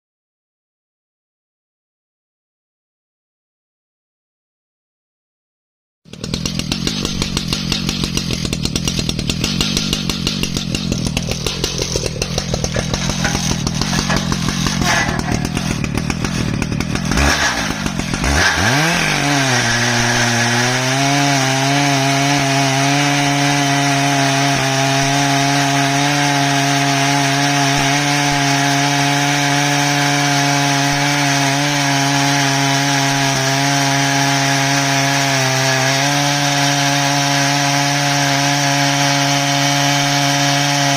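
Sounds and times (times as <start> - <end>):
chainsaw cutting wood: 6.1 - 40.9.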